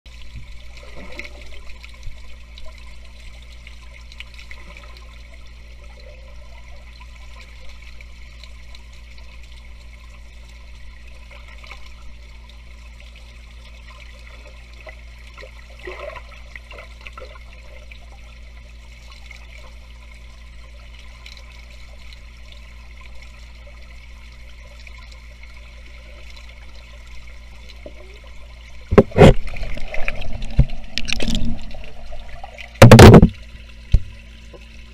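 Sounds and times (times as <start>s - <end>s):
faint water gurgles: 0.1s - 34.9s
muffled underwater rumble: 0.1s - 34.9s.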